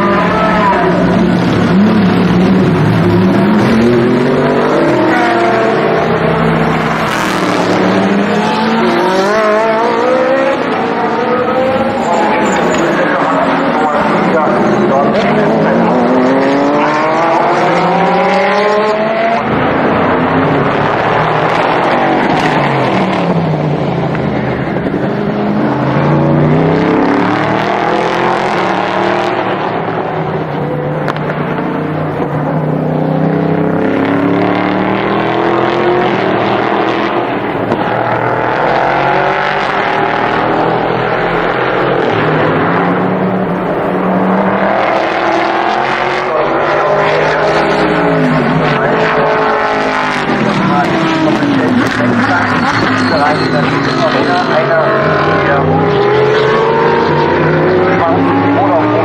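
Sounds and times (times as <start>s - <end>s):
race car engines accelerating: 0.0s - 59.0s.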